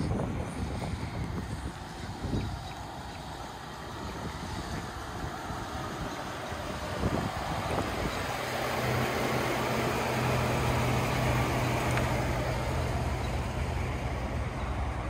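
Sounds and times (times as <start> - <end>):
truck engine idling: 0.0 - 15.0
wind noise on microphone: 0.0 - 15.0.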